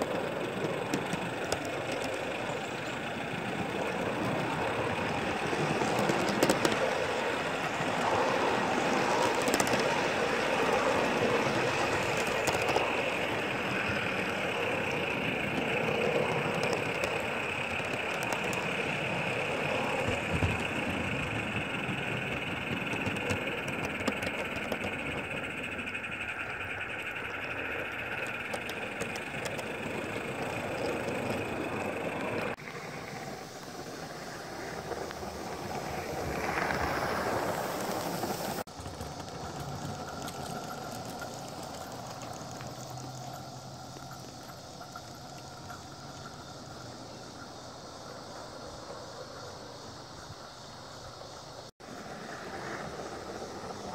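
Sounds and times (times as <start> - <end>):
wheel clicks on track: 0.0 - 32.6, 34.8 - 47.3
miniature train running: 0.0 - 53.9
steady hiss: 0.0 - 53.9.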